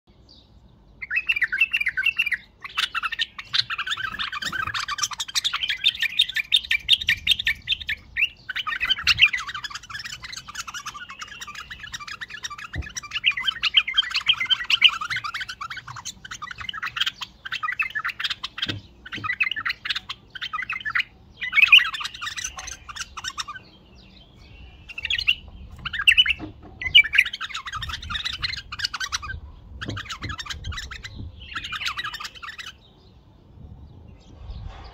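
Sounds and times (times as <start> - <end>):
bird singing chattering warble: 0.1 - 34.9.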